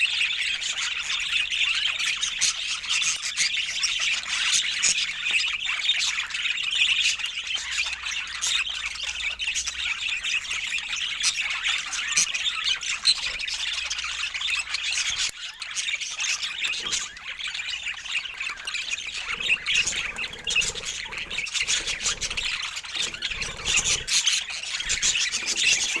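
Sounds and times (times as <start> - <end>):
budgerigars chattering: 0.0 - 26.0.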